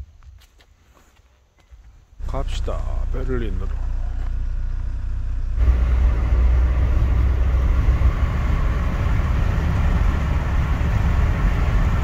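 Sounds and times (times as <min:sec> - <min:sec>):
low rumble: 0:02.2 - 0:12.0
road and wind noise: 0:02.2 - 0:12.0.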